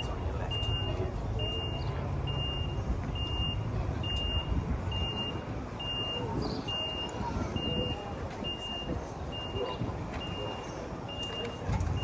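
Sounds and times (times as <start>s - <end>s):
high warning beeps: 0.0s - 12.0s
truck engine rumble: 0.0s - 12.0s.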